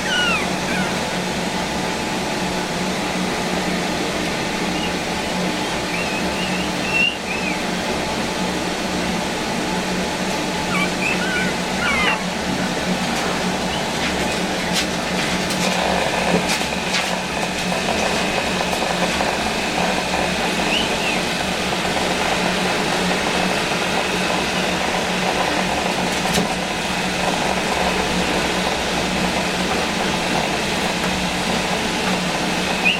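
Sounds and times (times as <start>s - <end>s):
mechanical hum: 0.0s - 32.9s.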